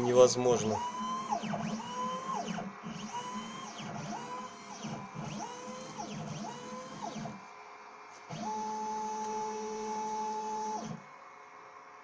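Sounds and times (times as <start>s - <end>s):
stepper motor whine ramping: 0.0s - 7.5s, 8.3s - 11.2s.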